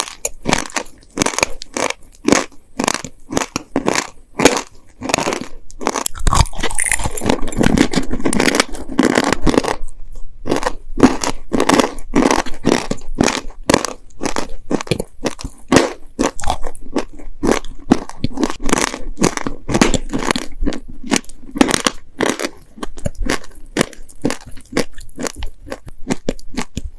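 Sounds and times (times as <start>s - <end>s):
chewing crunchy clay cookies: 0.0s - 26.9s.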